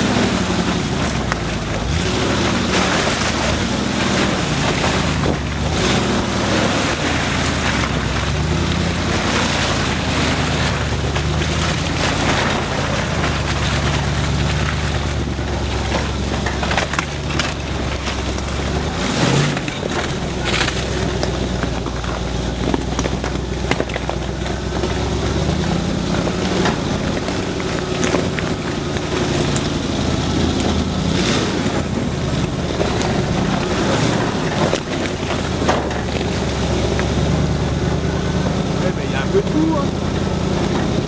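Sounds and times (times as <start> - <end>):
off-road vehicle engine running: 0.0 - 41.0
vehicle knocks and rattles: 0.0 - 41.0.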